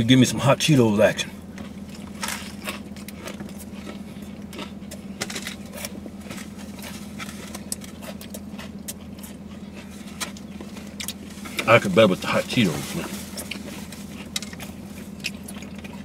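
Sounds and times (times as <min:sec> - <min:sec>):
low hum inside car: 0:00.0 - 0:16.0
crunchy chewing: 0:01.4 - 0:16.0.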